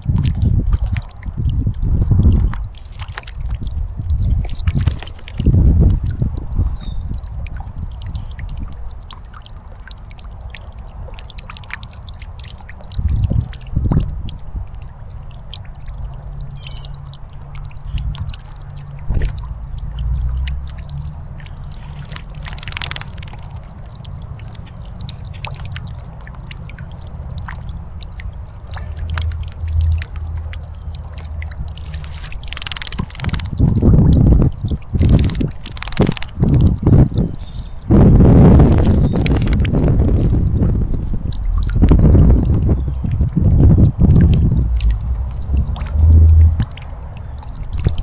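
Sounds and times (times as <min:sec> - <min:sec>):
fountain splashing into basin: 0:00.0 - 0:48.0.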